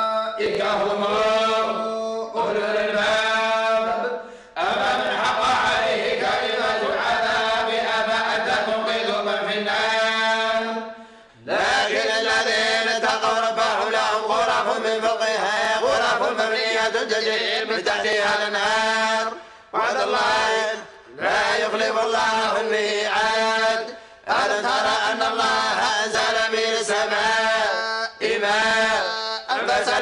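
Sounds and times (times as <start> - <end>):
group chanting in unison: 0.0 - 30.0.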